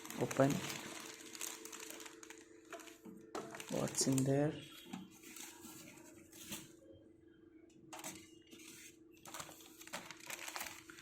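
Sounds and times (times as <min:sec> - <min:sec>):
rustling and handling noises: 0:00.0 - 0:06.8, 0:07.9 - 0:11.0.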